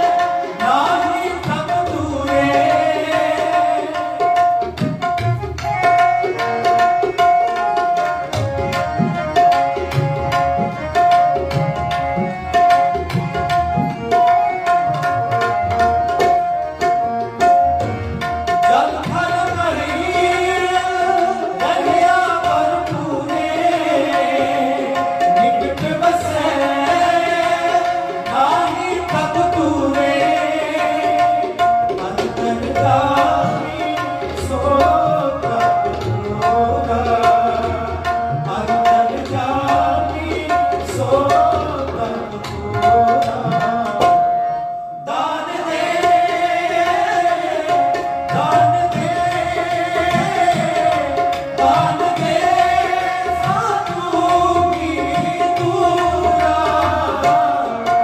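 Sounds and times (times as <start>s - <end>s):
men singing: 0.0s - 15.6s, 16.2s - 58.0s
harmonium: 0.0s - 58.0s
tabla drumming: 0.0s - 58.0s.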